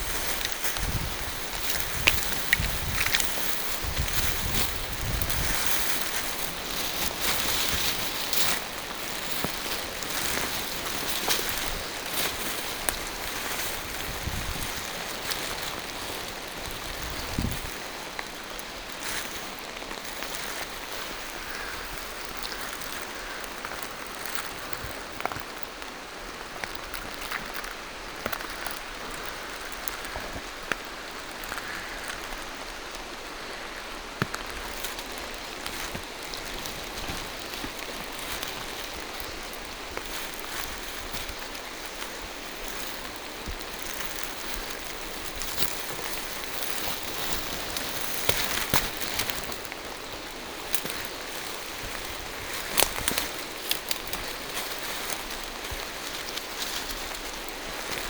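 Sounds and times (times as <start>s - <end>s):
drips striking leaves: 0.0s - 58.0s
rain falling through trees: 0.0s - 58.0s.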